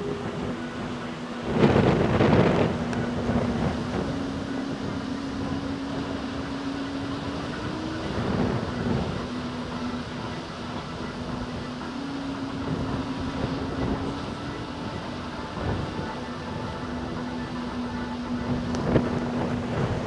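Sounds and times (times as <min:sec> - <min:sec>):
steady low hum: 0:00.0 - 0:20.0
wind blowing across microphone: 0:00.0 - 0:20.0.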